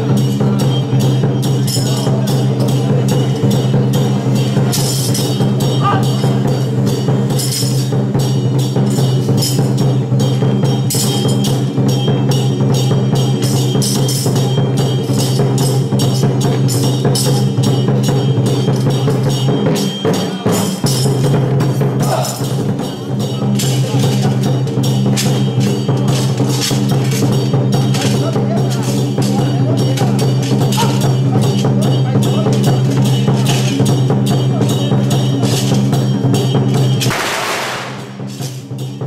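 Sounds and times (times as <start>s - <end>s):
drums gongs and cymbals: 0.0s - 39.0s.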